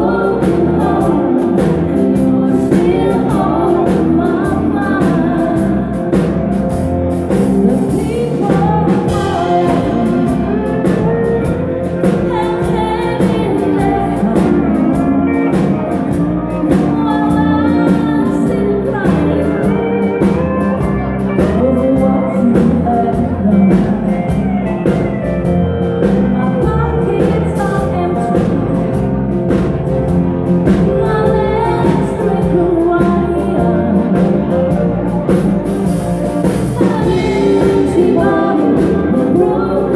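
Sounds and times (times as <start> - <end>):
live band playing: 0.0 - 39.9
person singing: 0.0 - 39.9
steady drum beat: 0.0 - 39.9.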